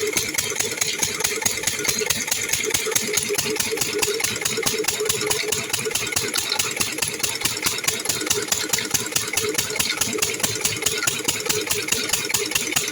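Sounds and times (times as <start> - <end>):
pump engine running: 0.0 - 12.9.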